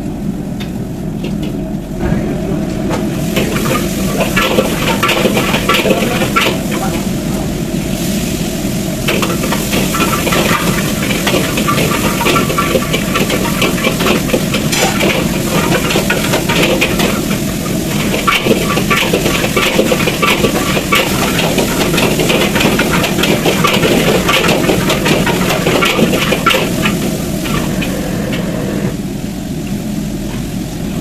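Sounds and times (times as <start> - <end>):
food sizzling: 3.0 - 30.9.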